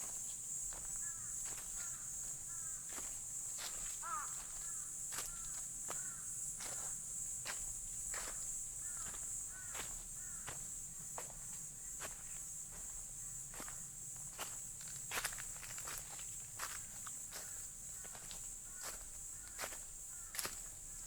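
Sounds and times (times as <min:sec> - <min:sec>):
high insect trill: 0:00.0 - 0:21.0.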